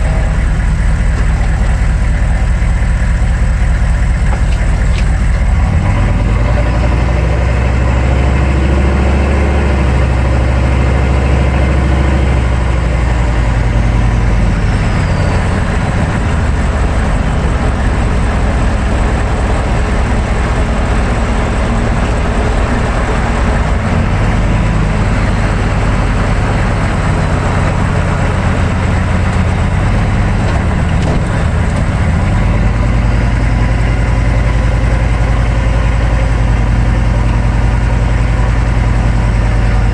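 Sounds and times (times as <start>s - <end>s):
diesel engine drone: 0.0s - 39.9s
road and tyre noise: 0.0s - 39.9s.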